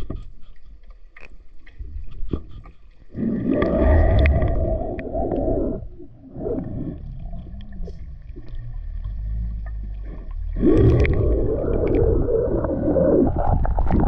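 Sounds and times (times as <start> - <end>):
low underwater rumble: 0.0 - 14.0
water rushing over camera: 0.0 - 14.0.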